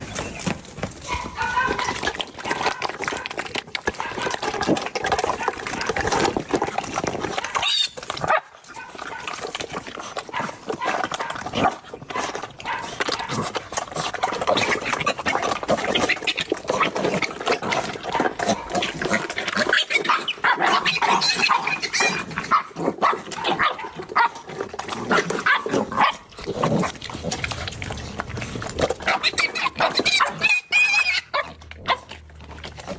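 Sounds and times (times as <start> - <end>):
animals chewing wetly: 0.0 - 32.9.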